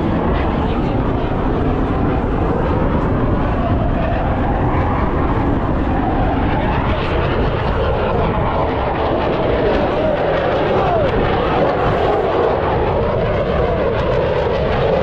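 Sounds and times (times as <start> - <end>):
jet aircraft rushing rumble: 0.0 - 15.0.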